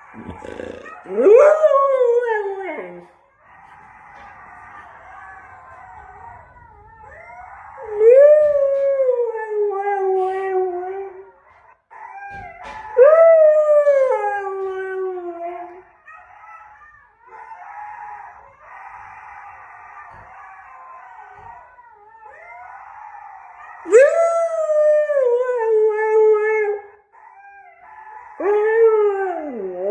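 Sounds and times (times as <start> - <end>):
husky howling: 0.0 - 29.9
pack of dogs howling: 0.0 - 29.9.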